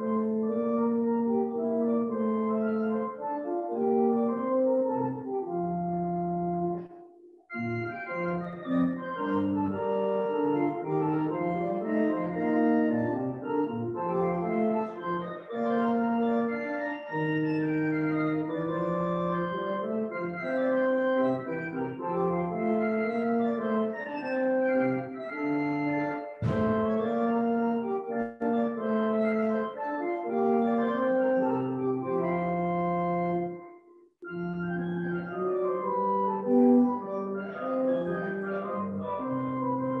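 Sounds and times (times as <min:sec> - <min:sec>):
pipe organ chords: 0:00.0 - 0:40.0.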